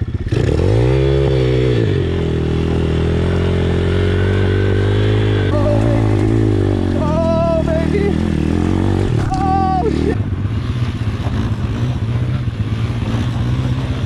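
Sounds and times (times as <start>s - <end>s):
motorbike engine high revs: 0.0s - 14.0s.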